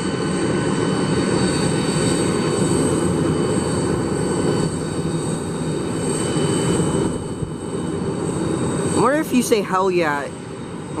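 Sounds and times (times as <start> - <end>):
high-pitched engine whine: 0.0 - 11.0
jet engines rumbling: 0.0 - 11.0.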